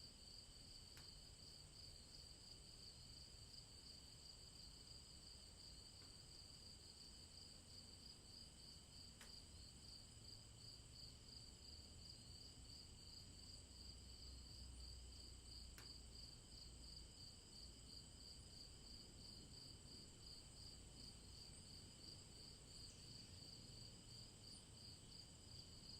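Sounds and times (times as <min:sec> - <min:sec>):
crickets chirping: 0:00.1 - 0:25.9.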